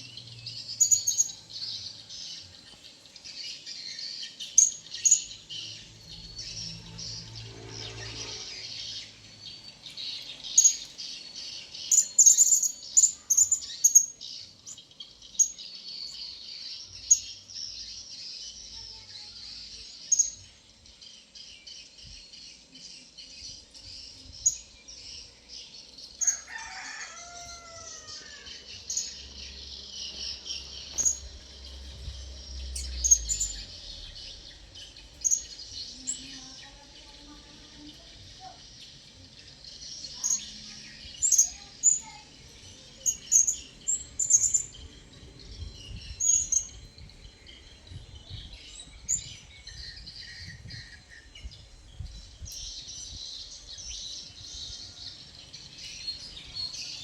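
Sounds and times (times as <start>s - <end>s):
continuous high chatter: 0.0s - 57.0s.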